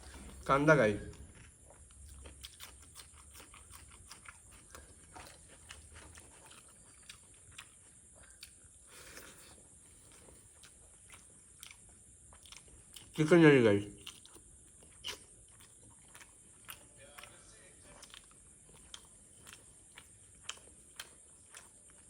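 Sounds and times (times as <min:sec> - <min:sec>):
person chewing food: 0:00.0 - 0:00.5, 0:01.1 - 0:13.3, 0:13.9 - 0:22.0.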